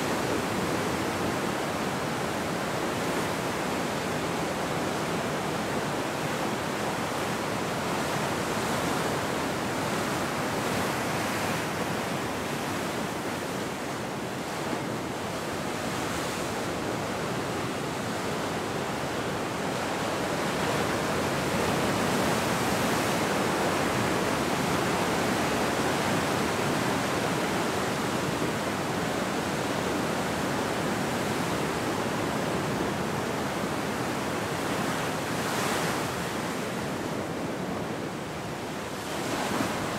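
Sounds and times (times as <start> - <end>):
ocean surf breaking: 6.9 - 39.9.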